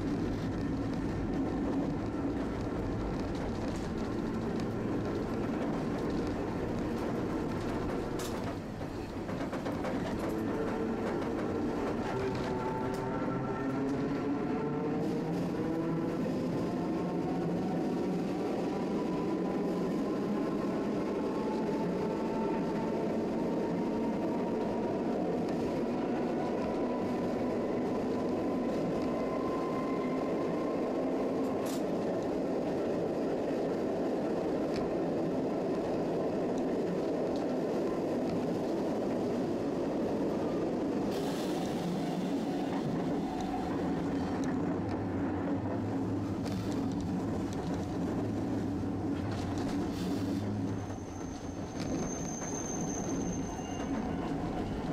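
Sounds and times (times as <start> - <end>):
streetcar wheels rumbling: 0.0 - 54.9.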